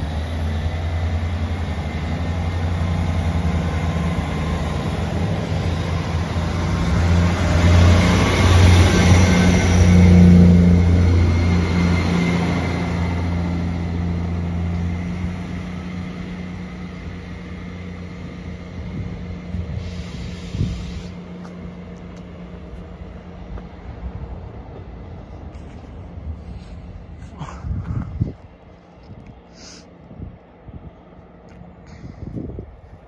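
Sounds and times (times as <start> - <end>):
diesel train engine drone: 0.0 - 33.0.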